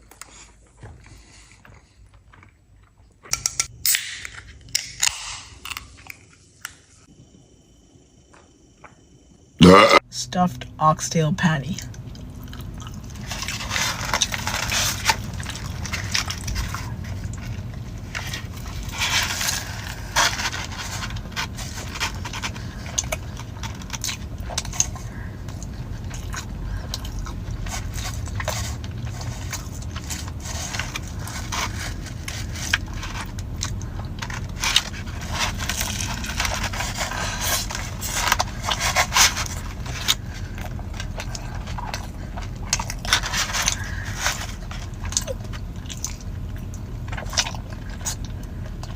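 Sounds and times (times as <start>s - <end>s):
biting and chewing: 0.0s - 7.2s, 9.6s - 10.0s, 11.8s - 48.9s
steady low hum: 0.0s - 48.9s.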